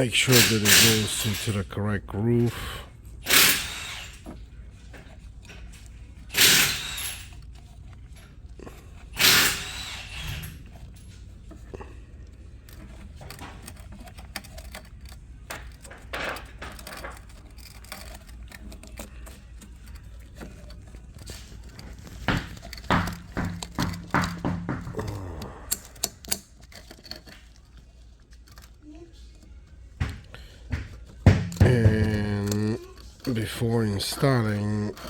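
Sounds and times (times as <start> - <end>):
loud clacks of parts: 0.0 - 1.6, 3.2 - 12.0, 12.6 - 27.7, 30.0 - 35.0
light clicks and scrapes: 0.0 - 2.5, 3.7 - 35.0.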